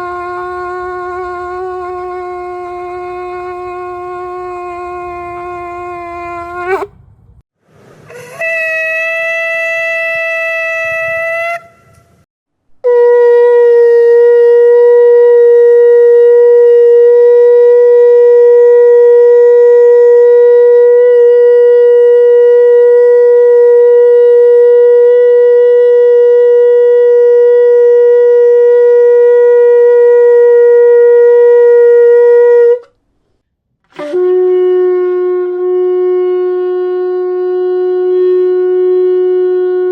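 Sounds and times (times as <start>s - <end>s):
shofar blasts: 0.0s - 6.9s, 8.1s - 12.2s, 12.8s - 32.9s, 33.9s - 39.9s.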